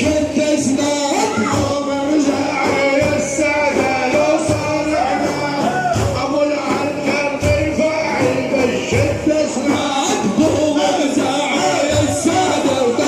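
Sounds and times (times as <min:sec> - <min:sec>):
drum beats: 0:00.0 - 0:13.0
men singing praise: 0:00.0 - 0:13.0.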